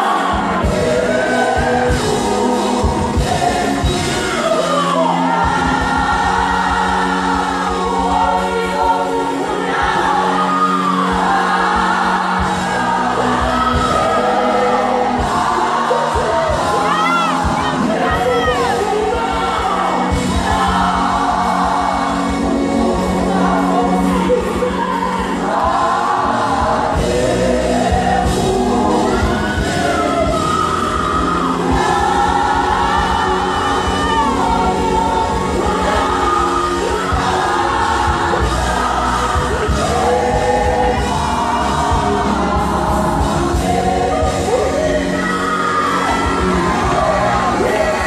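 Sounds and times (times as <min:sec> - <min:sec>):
gospel choir with band: 0:00.0 - 0:48.0.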